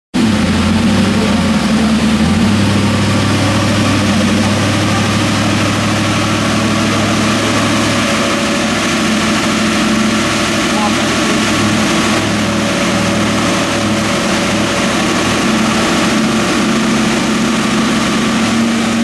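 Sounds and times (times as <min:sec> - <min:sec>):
car engine idling loudly: 0:00.1 - 0:19.0.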